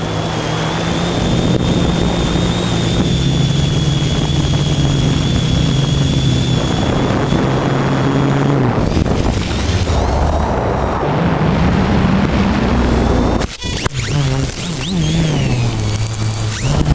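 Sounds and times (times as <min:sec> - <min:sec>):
drone motors humming: 0:00.0 - 0:16.9
rushing noise: 0:00.0 - 0:16.9
thin high whine: 0:00.0 - 0:16.9.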